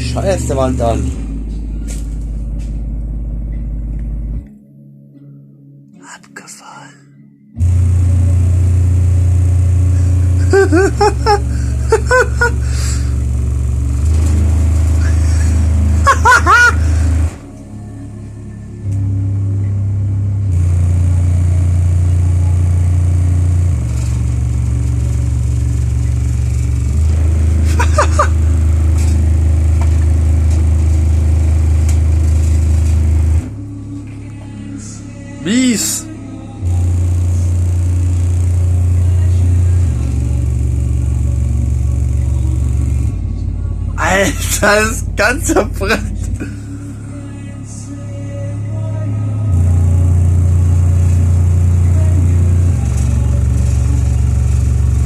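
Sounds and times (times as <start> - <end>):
deep bass notes from speakers: 0.0 - 4.5, 7.5 - 55.0.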